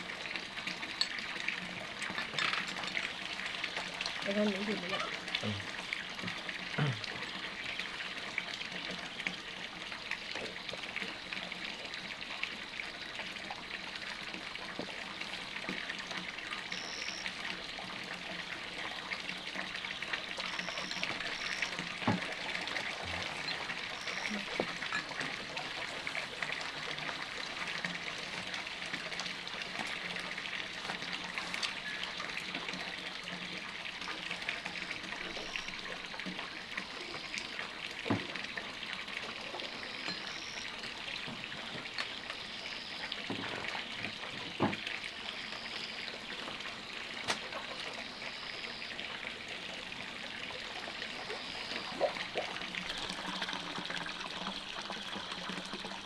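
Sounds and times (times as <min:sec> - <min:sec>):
trickle of running water: 0:00.0 - 0:56.0.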